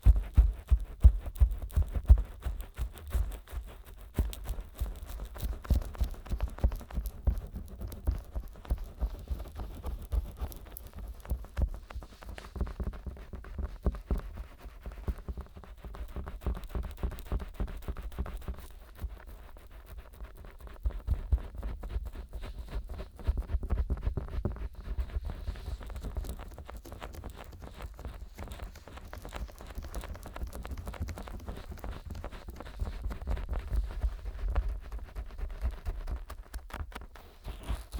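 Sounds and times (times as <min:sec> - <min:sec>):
fingers rubbing microphone ears: 0:00.0 - 0:37.9
small crackles and soft thumps: 0:00.0 - 0:37.9.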